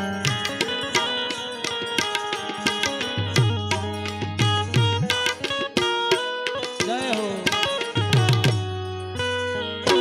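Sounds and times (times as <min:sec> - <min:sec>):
held instrumental melody: 0:00.0 - 0:10.0
tabla strokes: 0:00.0 - 0:10.0.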